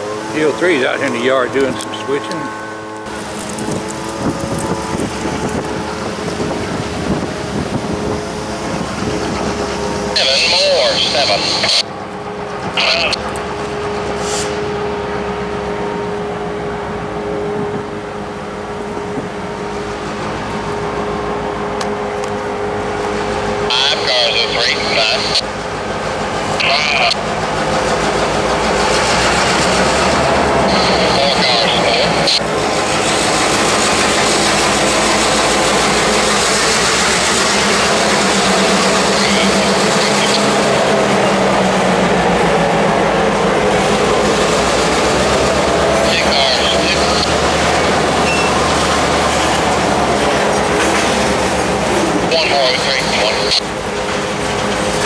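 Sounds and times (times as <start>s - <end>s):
constant whine: 0.0s - 55.0s
freight cars rolling on rails: 0.0s - 55.0s
locomotive engine rumble: 0.0s - 55.0s.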